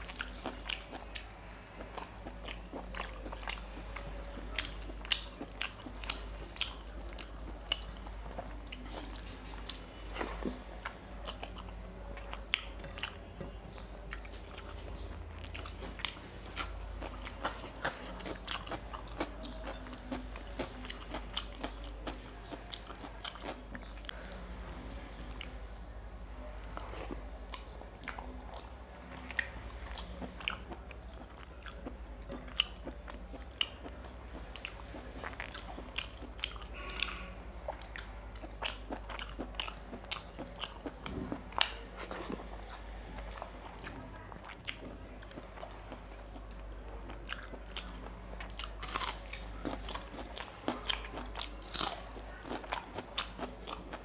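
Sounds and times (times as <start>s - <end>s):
wet chewing clicks and smacks: 0.0s - 24.2s, 26.6s - 54.0s
faint low hum: 0.0s - 54.0s.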